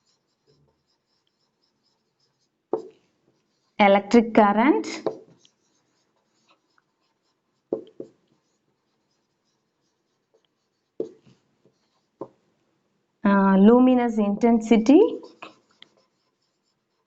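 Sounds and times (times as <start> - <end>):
scratchy pen strokes: 0.0 - 4.2, 4.8 - 12.4, 14.2 - 17.0.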